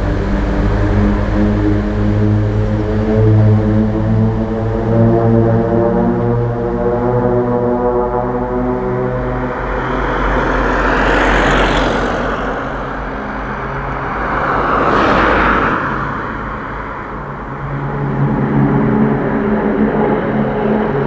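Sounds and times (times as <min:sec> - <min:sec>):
steady low hum: 0:00.0 - 0:20.1
road vehicles passing: 0:00.0 - 0:21.0.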